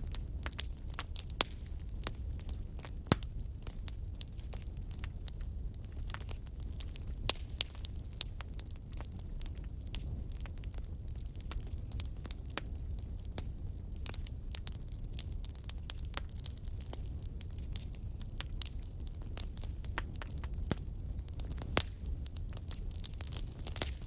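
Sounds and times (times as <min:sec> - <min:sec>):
flames rumbling: 0:00.0 - 0:24.0
wood fire crackling and popping: 0:00.0 - 0:24.0.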